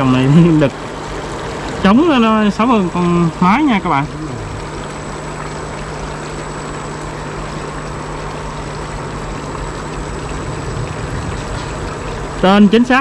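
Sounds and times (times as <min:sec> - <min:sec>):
air pump motor hum: 0:00.0 - 0:13.0
fish tank bubbling and splashing: 0:00.0 - 0:13.0.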